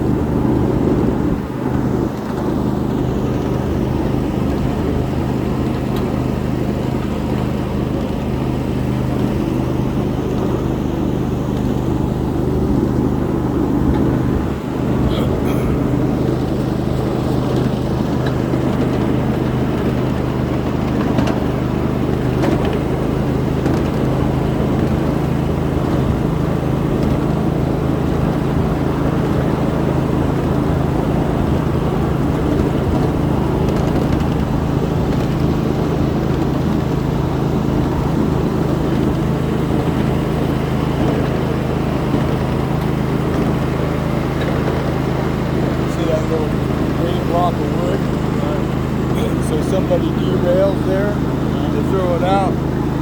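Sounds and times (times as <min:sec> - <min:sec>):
miniature train locomotive hum: 0:00.0 - 0:53.0
wheels rattling on rails: 0:00.0 - 0:53.0.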